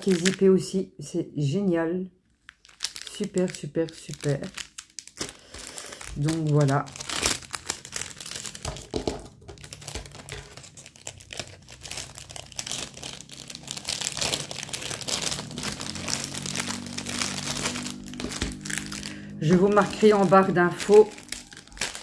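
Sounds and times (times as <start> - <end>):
plastic packaging crinkling: 0.0 - 0.5, 2.3 - 22.0.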